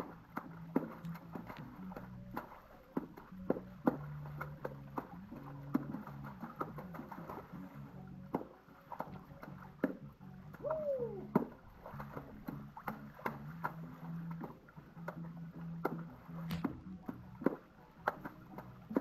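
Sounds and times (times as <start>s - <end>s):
hands splashing water: 0.0s - 19.0s.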